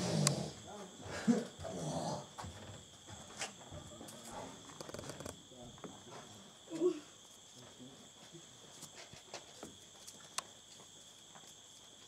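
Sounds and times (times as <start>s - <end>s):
rainforest insects droning: 0.0s - 12.0s.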